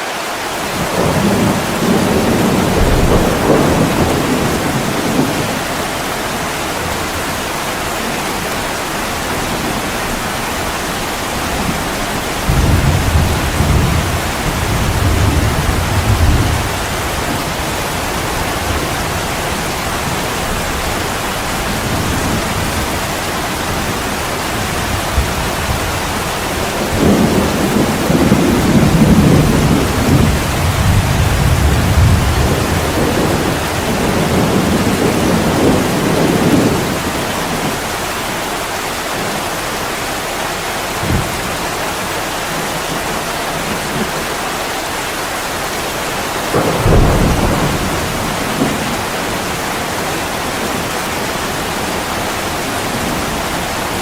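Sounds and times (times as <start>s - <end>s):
heavy rain falling: 0.0s - 54.0s
low thunder rumbling: 0.7s - 39.9s, 40.8s - 44.3s, 45.6s - 54.0s.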